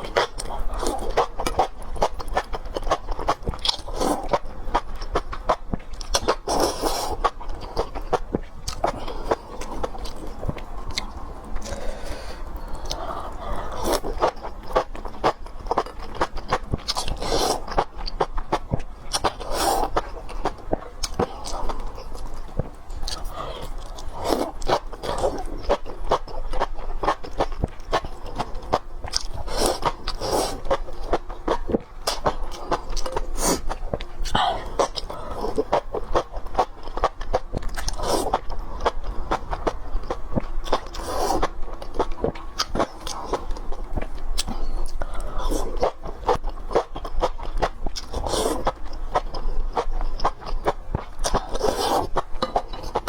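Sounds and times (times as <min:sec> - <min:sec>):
chewing with wet mouth smacks: 0:00.0 - 0:53.0.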